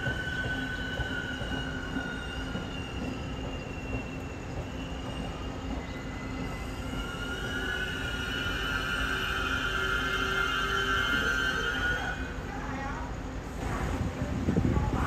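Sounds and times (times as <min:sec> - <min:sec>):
train high tones: 0:00.0 - 0:13.7
train low rumble: 0:00.0 - 0:15.0.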